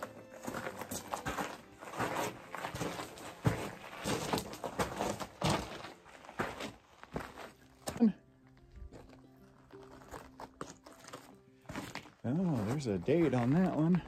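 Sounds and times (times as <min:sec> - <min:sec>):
footsteps crunching on gravel: 0:00.0 - 0:14.0.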